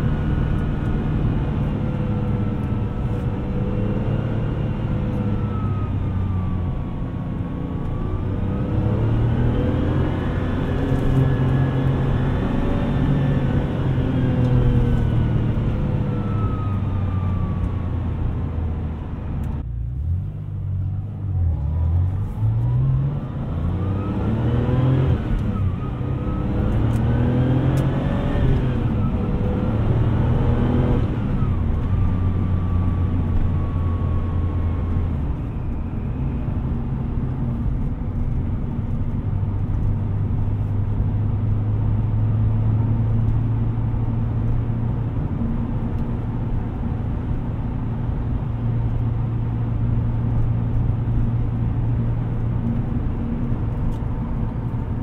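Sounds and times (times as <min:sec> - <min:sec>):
sports car engine accelerating: 0:00.0 - 0:55.0.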